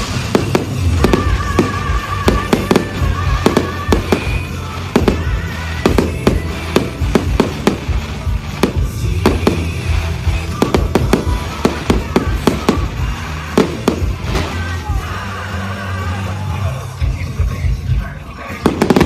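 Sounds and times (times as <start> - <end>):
fireworks bangs and crackles: 0.0 - 16.3, 18.4 - 19.0
music: 0.0 - 19.0.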